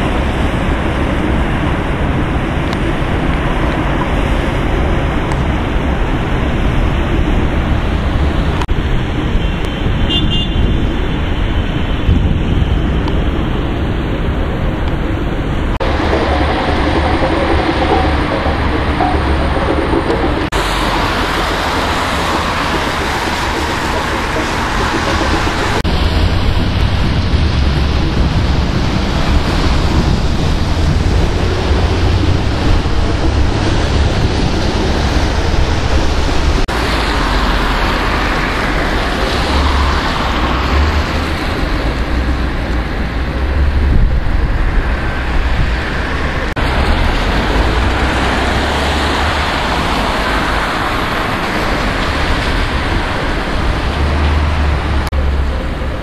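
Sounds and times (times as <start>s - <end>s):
road traffic: 0.0s - 56.0s
wind buffeting microphone: 0.0s - 56.0s.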